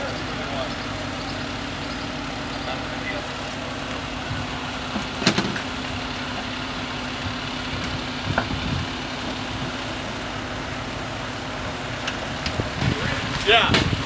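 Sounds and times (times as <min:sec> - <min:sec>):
fire engine idling: 0:00.0 - 0:14.0.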